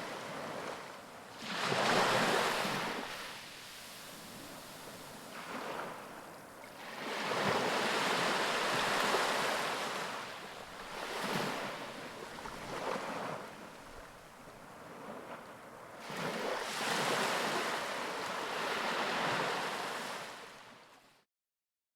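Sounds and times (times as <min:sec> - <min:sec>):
ocean waves breaking on beach: 0:00.0 - 0:20.9.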